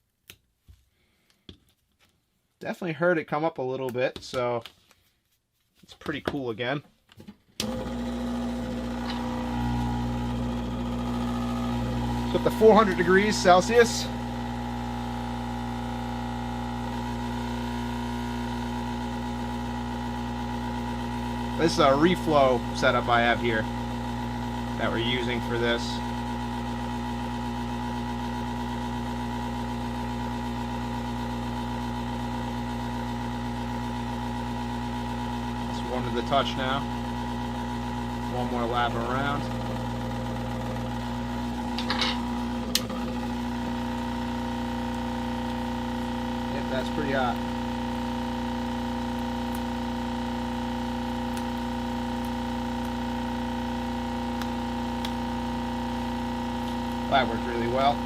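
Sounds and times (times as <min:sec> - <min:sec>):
hot air blower humming: 0:07.6 - 0:58.0.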